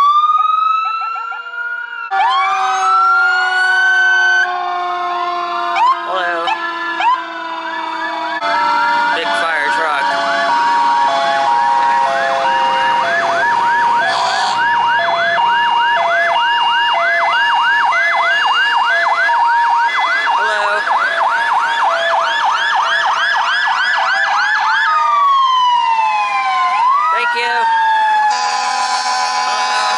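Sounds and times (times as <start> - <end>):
siren fast yelp: 0.0 - 29.9
siren slow falling wail: 0.0 - 29.9
two-tone hi-lo siren: 0.0 - 29.9.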